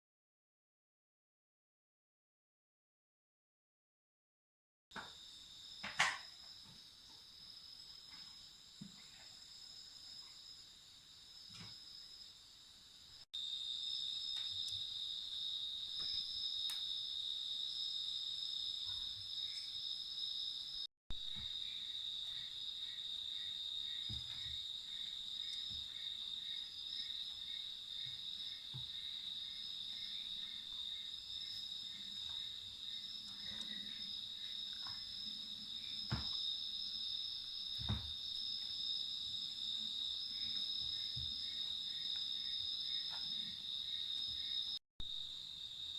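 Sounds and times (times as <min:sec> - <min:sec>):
crickets chirping: 0:05.0 - 0:45.9.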